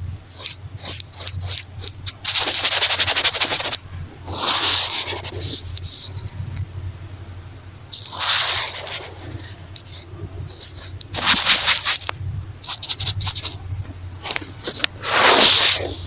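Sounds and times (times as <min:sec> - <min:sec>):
hair tie scratching a microphone: 0:00.3 - 0:06.6, 0:07.9 - 0:13.6, 0:14.2 - 0:16.0.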